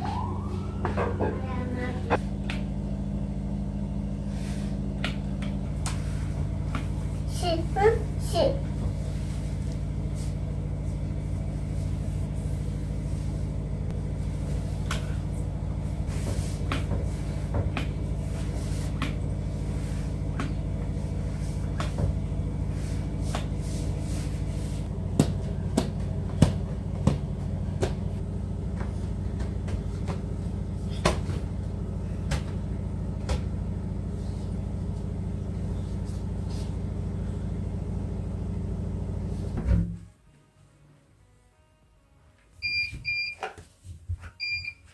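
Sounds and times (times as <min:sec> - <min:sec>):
steady low hum: 0:00.0 - 0:41.8.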